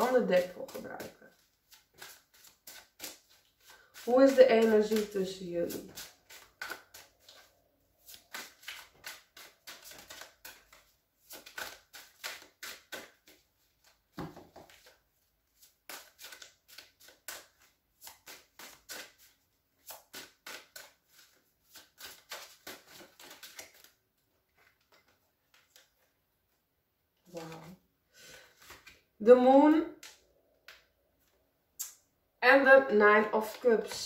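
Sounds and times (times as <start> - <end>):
cards being shuffled: 0.0 - 26.1, 27.3 - 29.0, 33.4 - 34.0.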